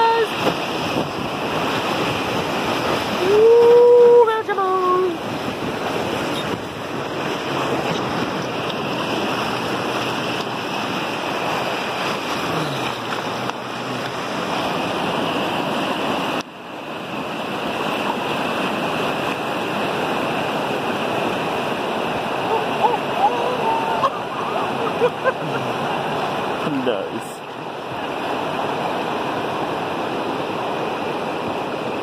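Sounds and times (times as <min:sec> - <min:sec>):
whitewater rapids rushing: 0:00.0 - 0:32.0.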